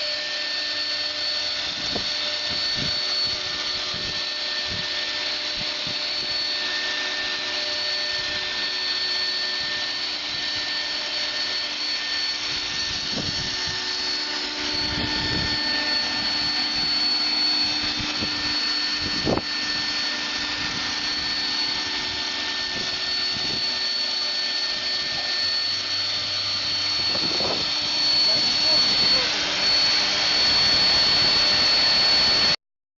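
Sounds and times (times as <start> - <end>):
router spindle whine and hiss: 0.0 - 32.6.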